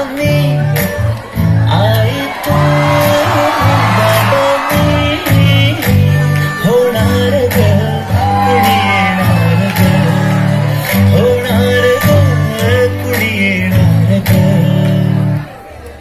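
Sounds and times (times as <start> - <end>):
dance song over loudspeakers: 0.0 - 15.7.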